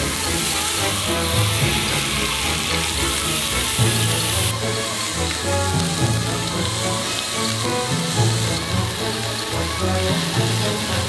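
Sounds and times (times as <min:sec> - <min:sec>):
background music: 0:00.0 - 0:11.0
fish sizzling on a grill: 0:00.0 - 0:11.0.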